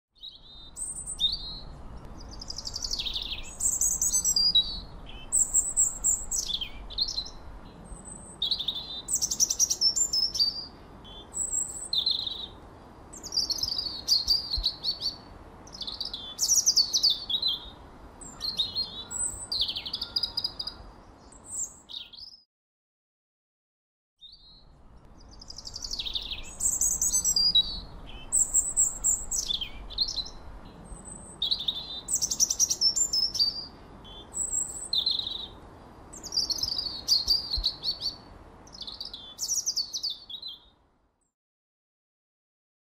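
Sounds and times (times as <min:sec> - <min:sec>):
birdsong with chirps and trills: 0:00.1 - 0:22.4, 0:24.2 - 0:41.3
outdoor ambient hiss: 0:00.2 - 0:22.4, 0:24.2 - 0:41.3.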